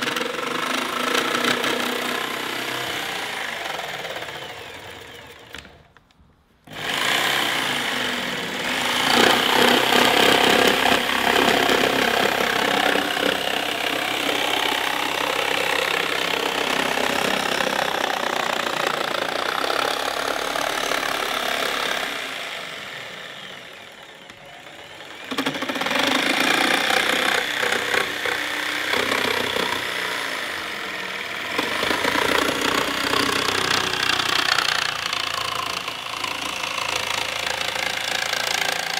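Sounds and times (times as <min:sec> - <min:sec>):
jigsaw cutting wood: 0:00.0 - 0:06.0, 0:06.6 - 0:38.9.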